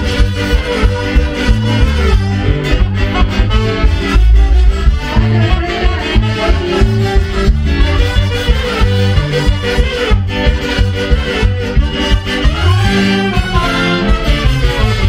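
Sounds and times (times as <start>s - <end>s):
latin dance music with accordion: 0.0s - 15.0s
steady bass beat: 0.0s - 15.0s.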